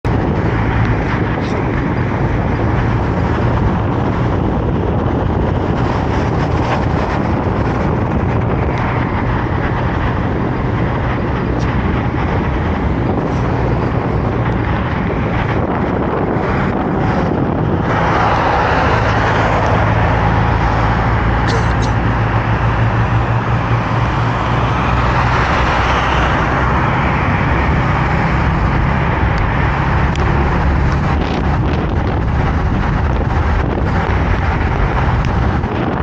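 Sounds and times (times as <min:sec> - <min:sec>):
vehicle road noise: 0:00.0 - 0:36.0.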